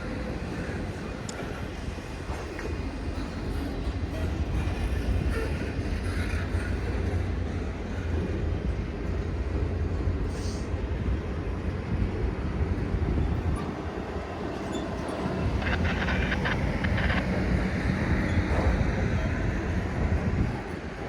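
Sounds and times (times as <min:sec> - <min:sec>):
freight train rumbling on rails: 0:00.0 - 0:21.0.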